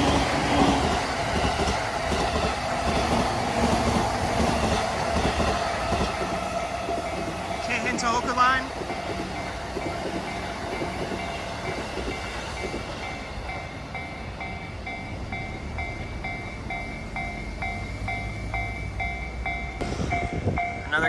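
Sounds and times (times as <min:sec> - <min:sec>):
train wheel clicks: 0:00.0 - 0:20.6
train rumble: 0:00.0 - 0:21.0.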